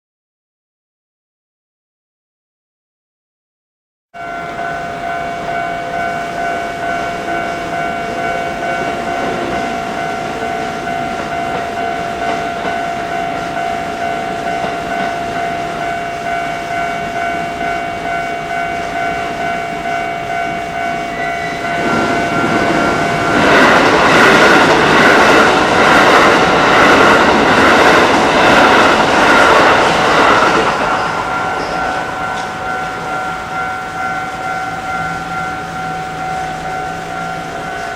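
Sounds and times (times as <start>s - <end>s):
level crossing bells ringing: 4.2s - 37.9s
train wheels clattering on rails: 4.6s - 37.9s.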